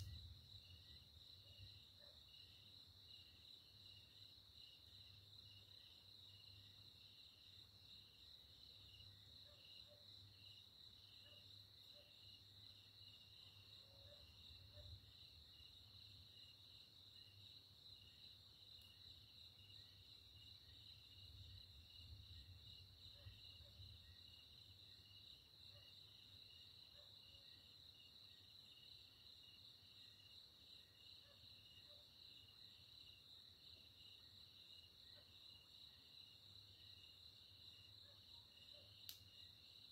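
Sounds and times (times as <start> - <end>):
night insects chirping: 0.0 - 39.9.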